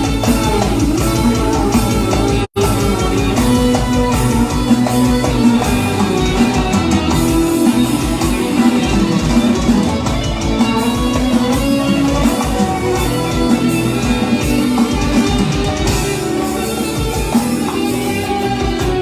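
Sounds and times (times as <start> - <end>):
band music: 0.0 - 19.0
plucked string instrument: 0.0 - 19.0
steady drum beat: 0.0 - 19.0.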